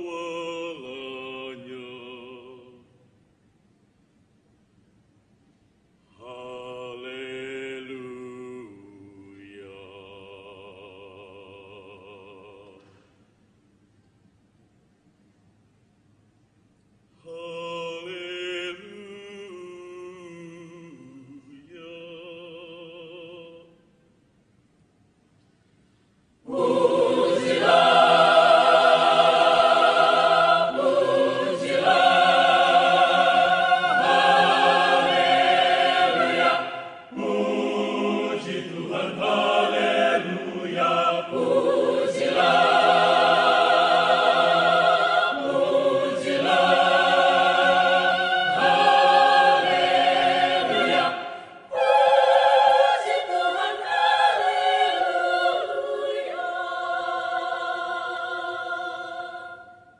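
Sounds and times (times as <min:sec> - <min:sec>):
mixed choir singing: 0:00.0 - 0:02.9, 0:06.2 - 0:12.9, 0:17.3 - 0:23.7, 0:26.4 - 0:59.9.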